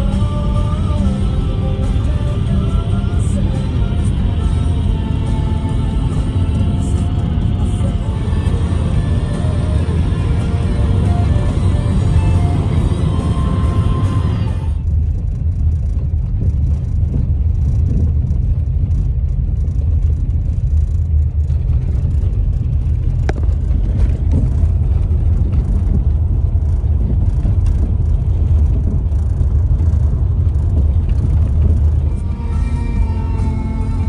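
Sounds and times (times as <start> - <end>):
car interior road and engine rumble: 0.0 - 34.0.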